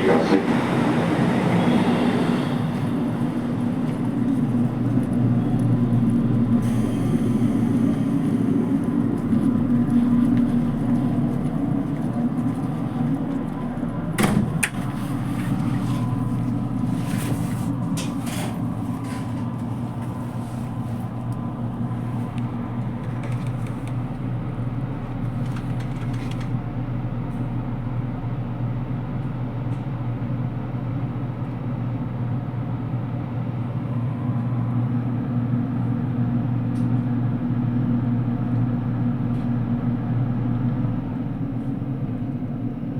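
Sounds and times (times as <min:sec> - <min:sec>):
train humming on rails: 0:00.0 - 0:42.9.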